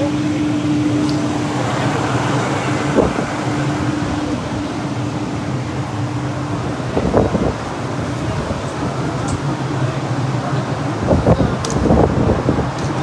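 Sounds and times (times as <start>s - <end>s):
wind on microphone: 0.0s - 9.5s, 10.9s - 13.0s.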